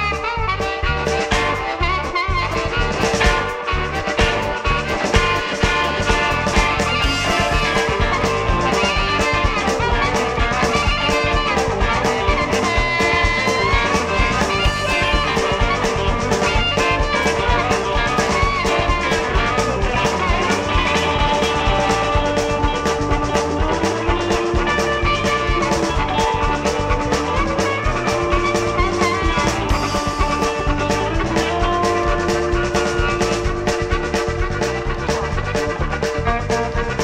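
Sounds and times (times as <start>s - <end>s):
drum kit beat: 0.0s - 37.0s
guitar lines: 0.0s - 37.0s.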